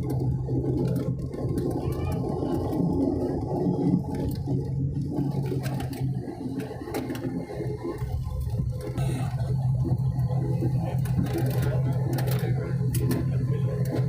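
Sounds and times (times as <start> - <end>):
airliner engine hum and rumble: 0.0 - 14.0.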